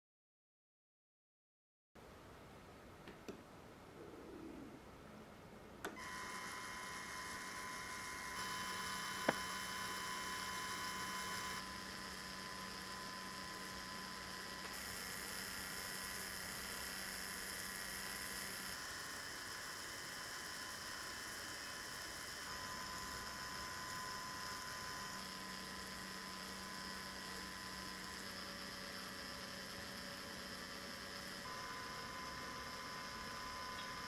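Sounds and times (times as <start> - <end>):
electric motor whining: 6.0 - 34.0.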